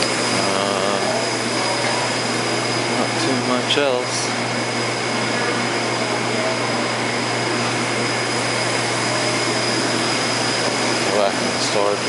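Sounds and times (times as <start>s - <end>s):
machinery whirring: 0.0s - 12.0s
thin high whine: 0.0s - 12.0s.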